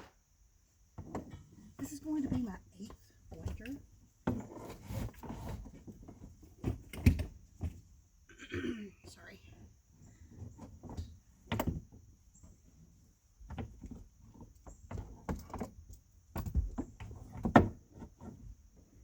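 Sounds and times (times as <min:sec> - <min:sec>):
objects knocking and rattling in van: 0:00.9 - 0:08.0, 0:10.0 - 0:19.0.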